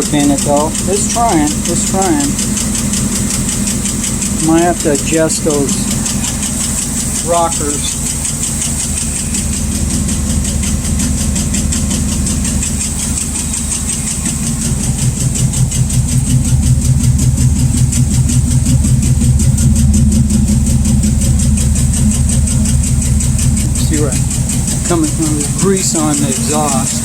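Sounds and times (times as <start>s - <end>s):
engine idling with valvetrain tick: 0.0s - 27.0s.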